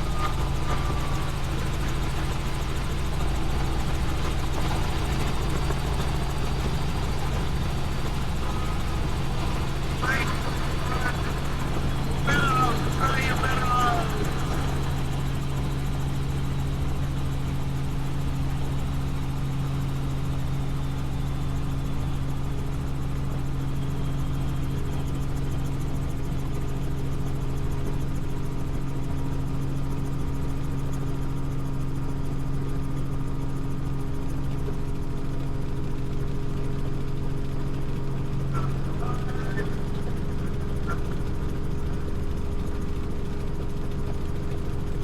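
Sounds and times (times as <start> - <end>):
helicopter cabin engine and rotor drone: 0.0 - 45.0.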